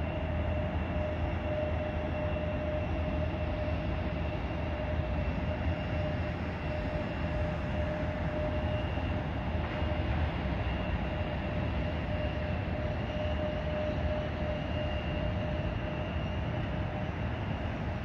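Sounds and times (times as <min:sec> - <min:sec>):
distant jet engine rumble: 0:00.0 - 0:18.0
faint jet engine whine: 0:00.0 - 0:18.0.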